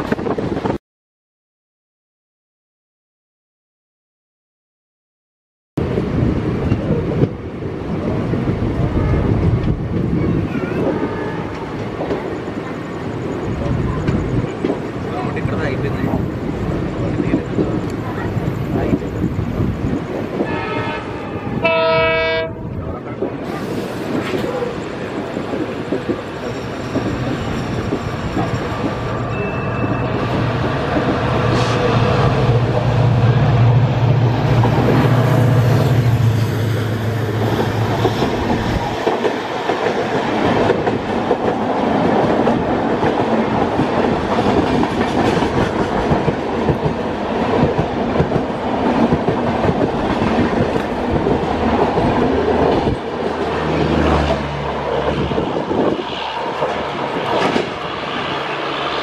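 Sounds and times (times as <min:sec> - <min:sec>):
deep locomotive hum: 0:05.8 - 0:59.0
train coaches rushing rattle: 0:08.0 - 0:59.0.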